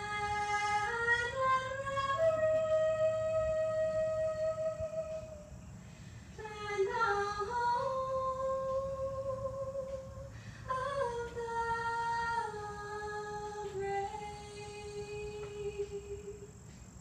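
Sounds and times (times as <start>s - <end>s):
person singing slow melody: 0.0s - 16.9s.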